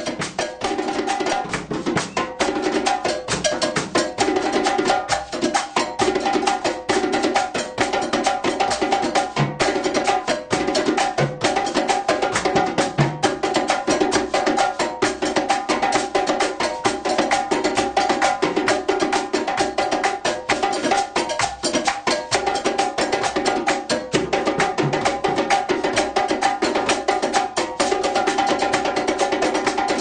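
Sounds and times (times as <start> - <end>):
drums playing fast rhythm: 0.0 - 30.0.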